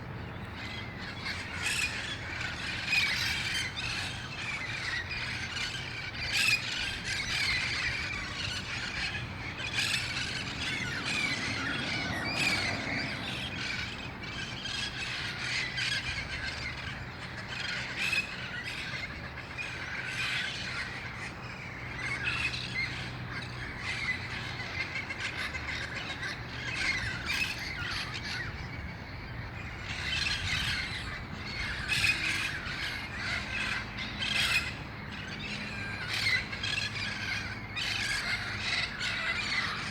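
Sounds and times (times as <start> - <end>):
parrots squawking and screeching: 0.6 - 28.7, 29.4 - 39.9.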